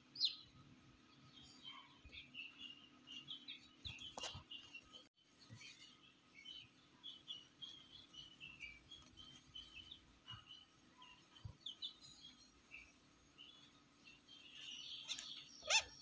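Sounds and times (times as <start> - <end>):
chicks peeping: 0.1 - 16.0.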